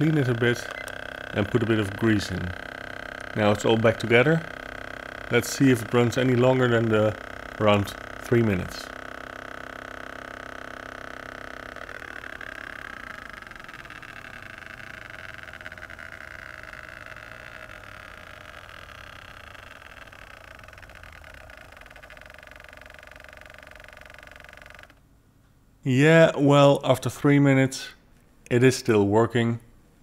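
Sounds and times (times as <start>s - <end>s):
massage gun motor running: 0.0s - 25.1s.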